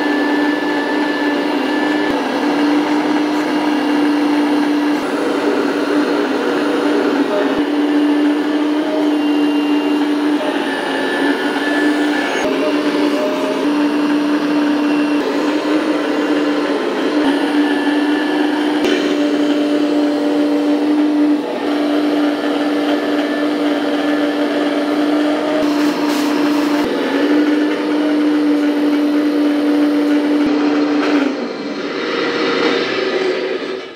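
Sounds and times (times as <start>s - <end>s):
hydraulic pump whining: 0.0s - 33.9s.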